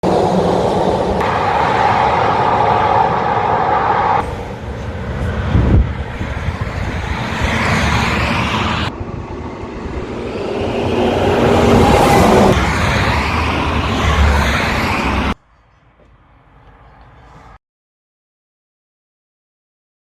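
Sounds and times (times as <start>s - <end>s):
highway traffic noise: 0.0s - 17.6s.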